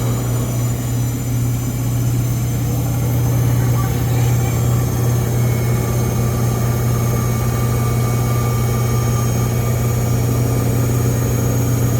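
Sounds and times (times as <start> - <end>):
washing machine spin drone: 0.0 - 11.9.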